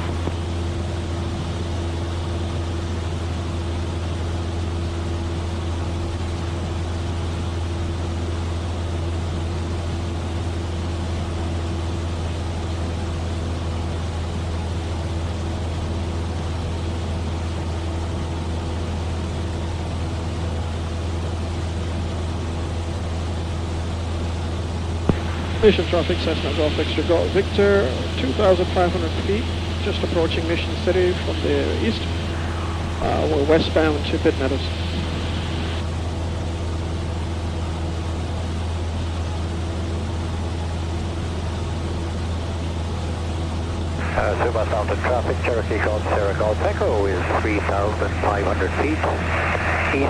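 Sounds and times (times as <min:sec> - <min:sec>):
airplane engine drone in cabin: 0:00.0 - 0:43.4, 0:44.0 - 0:50.0.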